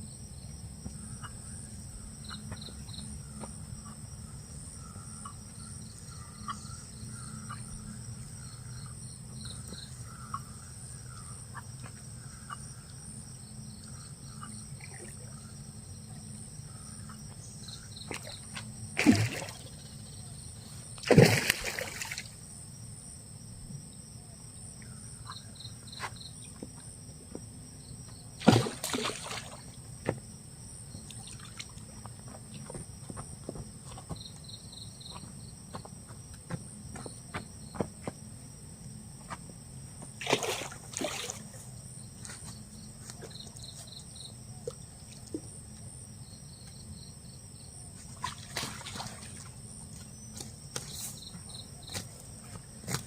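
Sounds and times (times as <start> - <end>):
high insect buzz: 0.0 - 53.0.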